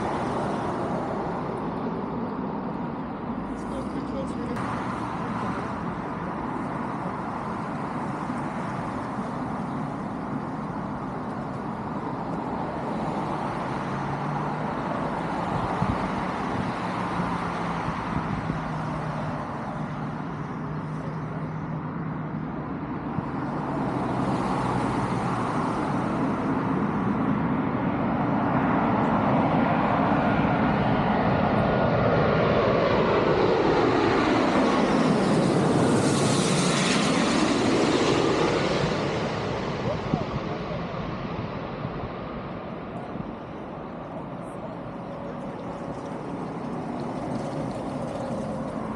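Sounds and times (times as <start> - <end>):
jet airliner passing overhead: 0.0 - 48.9
road traffic engine hum: 0.0 - 48.9.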